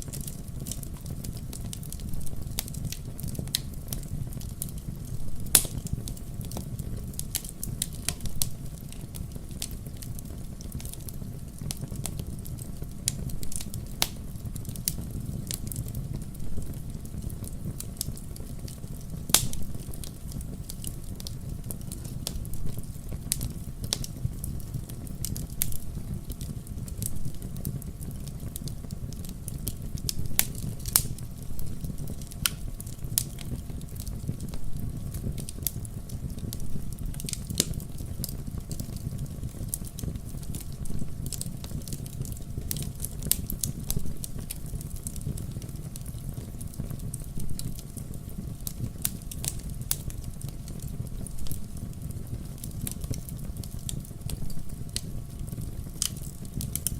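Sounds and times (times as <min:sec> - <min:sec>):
fire crackling and popping: 0:00.0 - 0:56.9
fire rumbling: 0:00.0 - 0:56.9.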